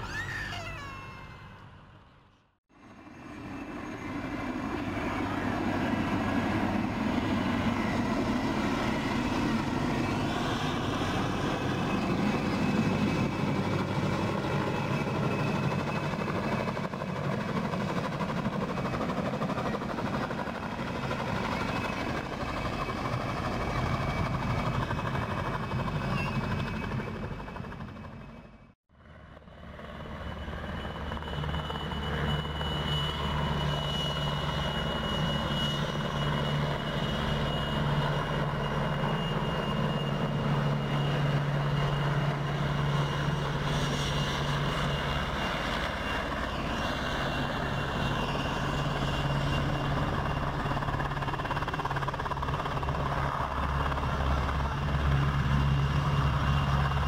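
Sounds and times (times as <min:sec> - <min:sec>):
helicopter flying past: 0:00.0 - 0:57.0.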